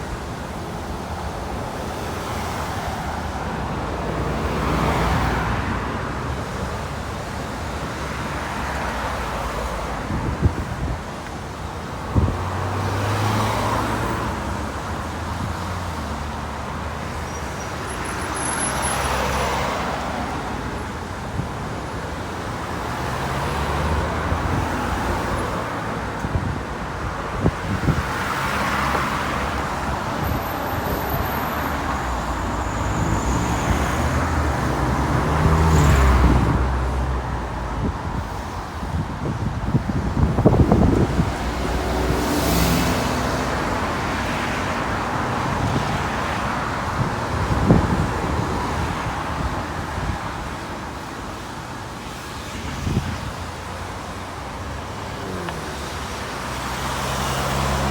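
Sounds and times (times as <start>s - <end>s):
vehicles passing by: 0.0s - 57.9s.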